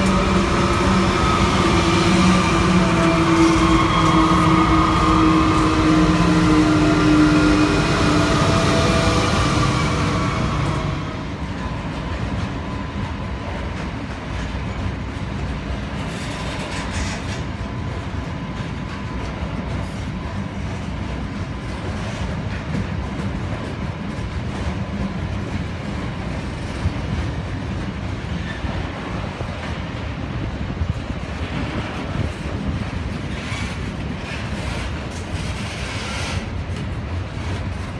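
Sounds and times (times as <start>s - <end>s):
freight wagons rumbling on rails: 0.0s - 37.9s.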